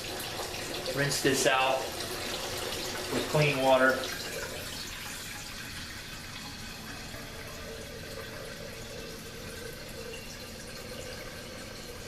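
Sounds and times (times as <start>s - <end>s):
tap water running into glass carafe: 0.0s - 12.0s.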